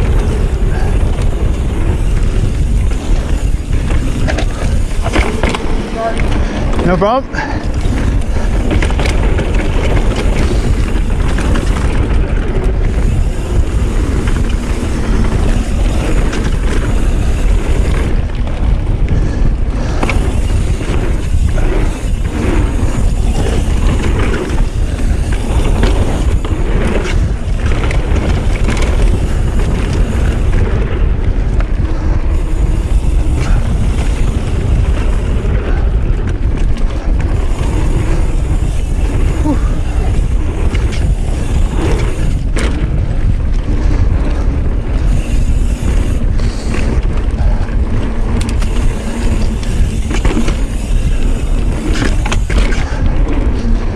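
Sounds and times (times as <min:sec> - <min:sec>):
bike knocks and rattles: 0:00.0 - 0:53.9
bike tyres rumbling on dirt: 0:00.0 - 0:53.9
wind buffeting microphone: 0:00.0 - 0:53.9.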